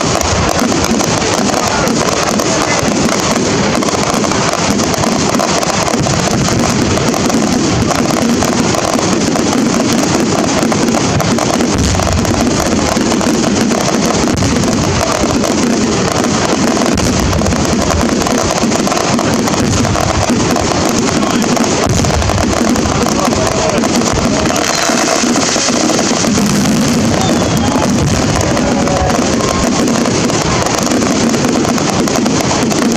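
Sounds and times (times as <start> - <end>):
fireworks crackling and popping: 0.0 - 32.9.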